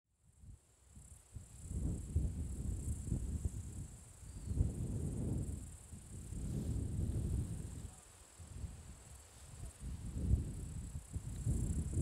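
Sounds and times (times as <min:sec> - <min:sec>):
insects chirring: 0:00.3 - 0:12.0
wind buffeting microphone: 0:01.4 - 0:12.0.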